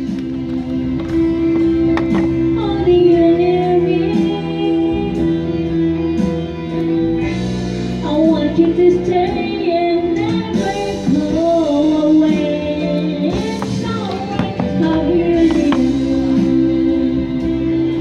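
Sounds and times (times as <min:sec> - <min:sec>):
song with singing voice: 0:00.0 - 0:18.0.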